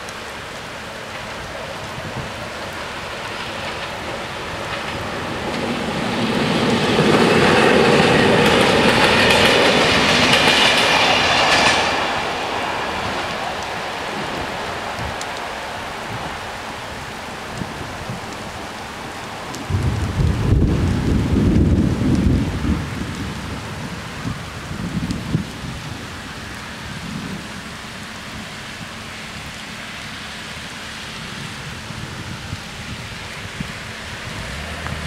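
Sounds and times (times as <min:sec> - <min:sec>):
steady rain falling: 0:00.0 - 0:35.0
thunder rumbling: 0:00.8 - 0:29.8, 0:31.2 - 0:35.0.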